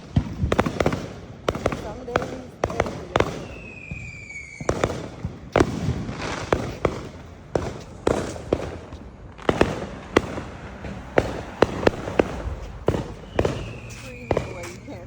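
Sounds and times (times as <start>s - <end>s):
fireworks bangs and pops: 0.0s - 15.0s
steady outdoor hiss: 0.0s - 15.0s.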